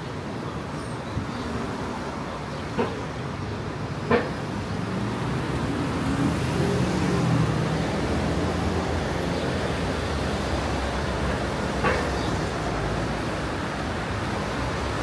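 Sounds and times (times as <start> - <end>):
steady traffic hiss: 0.0 - 15.0
cars driving past: 1.4 - 15.0.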